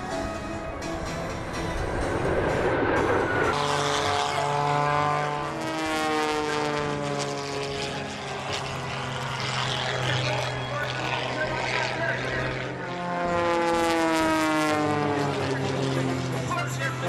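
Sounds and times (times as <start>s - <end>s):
jet roar: 0.0s - 17.0s
propeller plane flying past: 0.0s - 17.0s.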